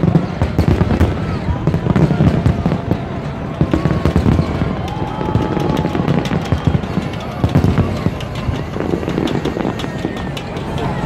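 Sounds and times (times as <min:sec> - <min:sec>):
fireworks cracking and booming: 0:00.0 - 0:11.0.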